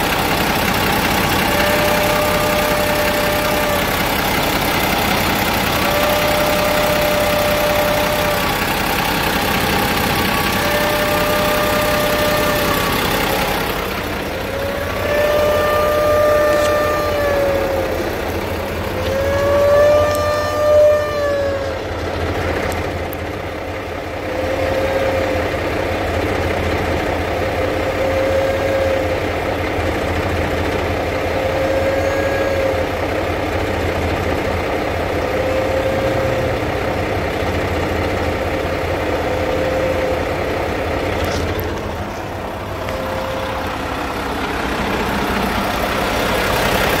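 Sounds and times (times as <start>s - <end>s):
diesel truck engine idling: 0.0s - 47.0s.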